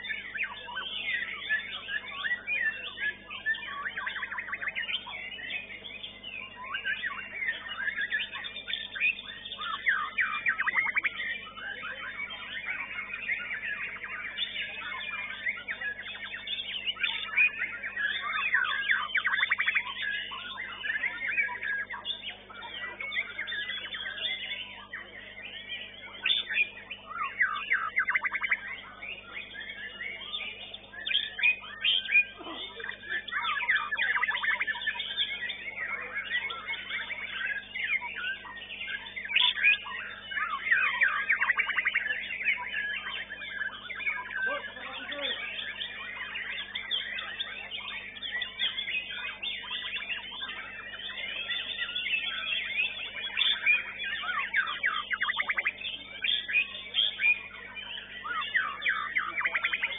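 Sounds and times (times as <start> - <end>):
songbird singing rapid phrases: 0.0 - 59.9.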